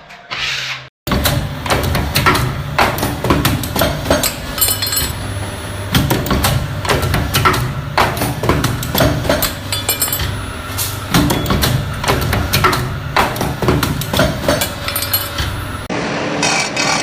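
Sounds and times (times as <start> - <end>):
machinery humming: 1.1 - 17.0.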